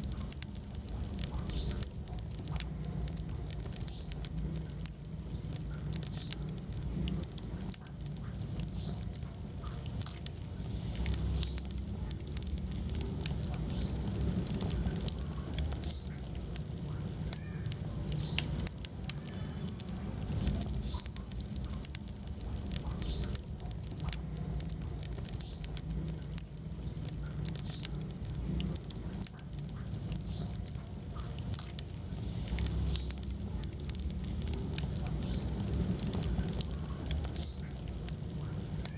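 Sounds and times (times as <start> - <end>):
fire crackles and pops: 0.0 - 38.9
low rumble of flames: 0.0 - 38.9.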